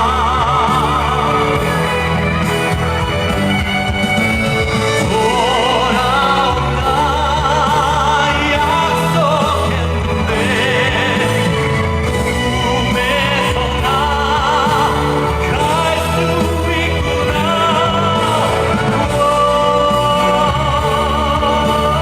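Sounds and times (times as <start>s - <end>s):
person singing with vibrato: 0.0s - 3.7s, 4.7s - 22.0s
live band music: 0.0s - 22.0s.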